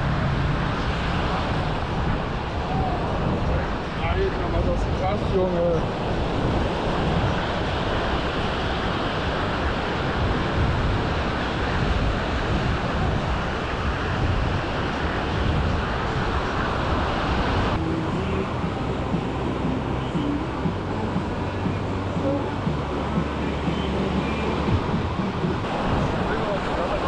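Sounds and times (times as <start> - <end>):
surf on the beach: 0.0 - 27.0
wind on microphone: 0.0 - 27.0.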